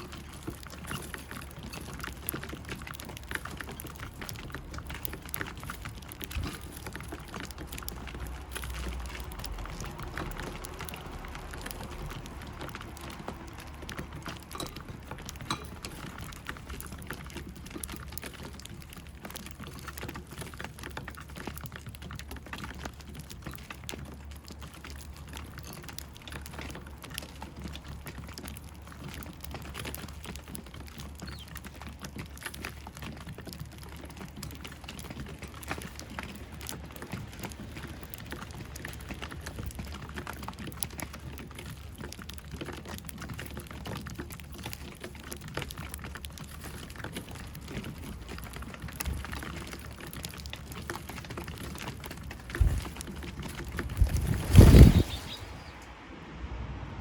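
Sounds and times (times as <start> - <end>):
beaks pecking at food: 0.0 - 55.9.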